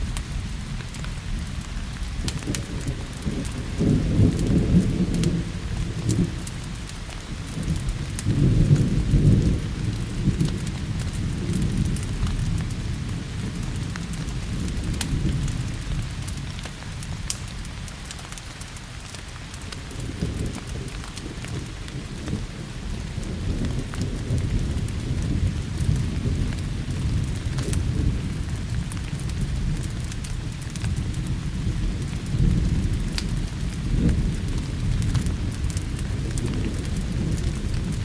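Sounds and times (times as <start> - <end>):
thunder rumbling: 0.0 - 17.9, 19.6 - 38.0
steady rain: 0.0 - 38.0
wood fire crackling: 0.0 - 38.0.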